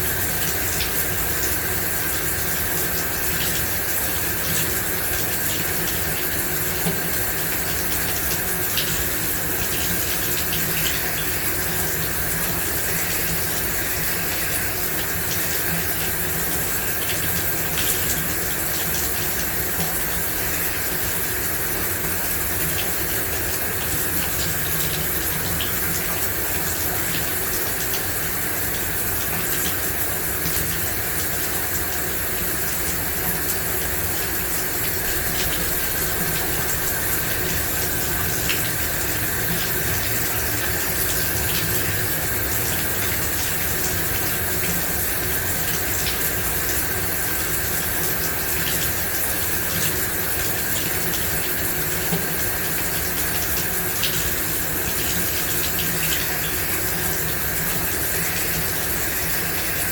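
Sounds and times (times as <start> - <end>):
shower spray running: 0.0 - 59.9
water drips and splashes: 0.0 - 59.9.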